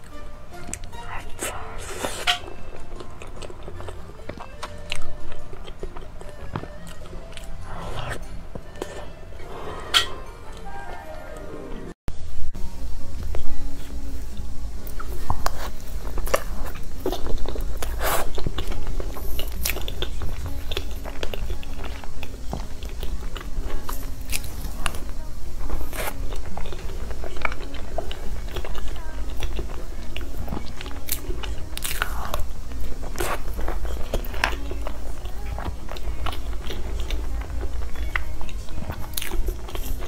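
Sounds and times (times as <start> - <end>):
mouth smacking and chewing: 0.6 - 9.1, 14.8 - 40.0.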